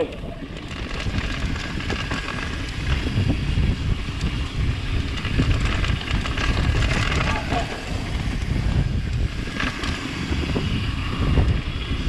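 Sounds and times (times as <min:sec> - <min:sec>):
low rumble of tyres on dirt: 0:00.0 - 0:12.0
wind buffeting microphone: 0:00.0 - 0:12.0
bike knocks and rattles: 0:00.1 - 0:12.0.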